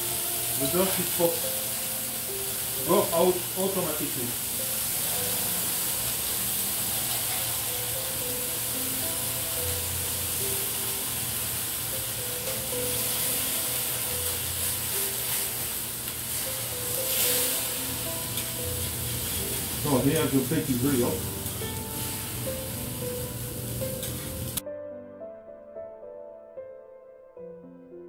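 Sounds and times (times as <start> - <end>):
ice sizzling on hot plate: 0.0 - 24.6
background music: 0.0 - 28.0.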